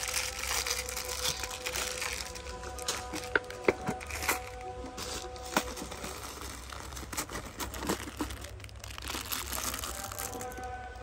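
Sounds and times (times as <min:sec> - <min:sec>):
plastic packet crinkling: 0:00.0 - 0:11.0.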